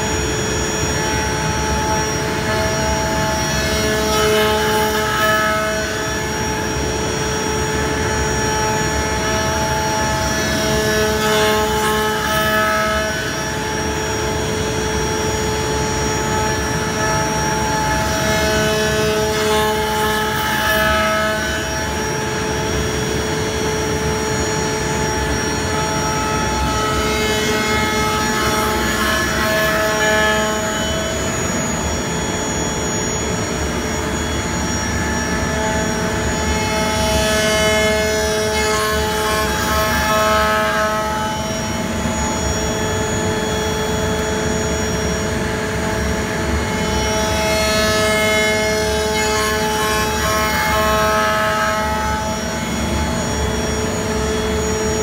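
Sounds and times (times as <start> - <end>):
router spindle whine cutting wood: 0.0 - 55.0.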